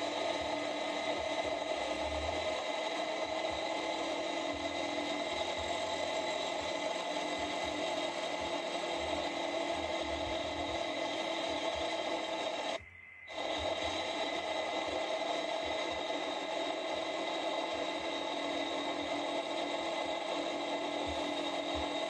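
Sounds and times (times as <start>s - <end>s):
atv engine drone: 0.0s - 22.0s.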